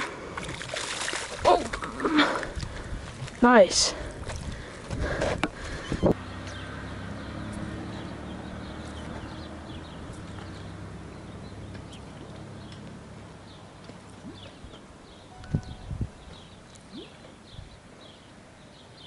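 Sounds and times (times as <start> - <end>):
small birds chirping: 3.4 - 19.0.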